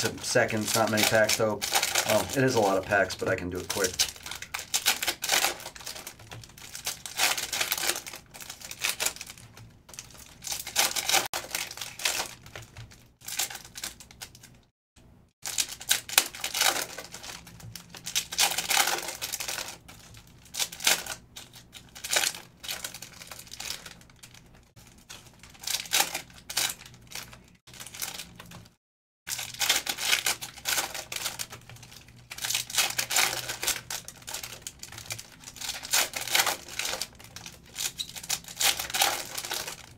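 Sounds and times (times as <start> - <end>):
foil wrappers tearing and crinkling: 0.0 - 14.7, 15.4 - 28.6, 29.3 - 39.9.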